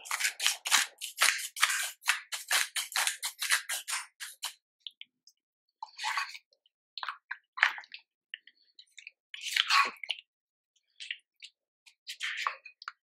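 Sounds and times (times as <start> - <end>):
wet squelches and scrapes: 0.0 - 13.0.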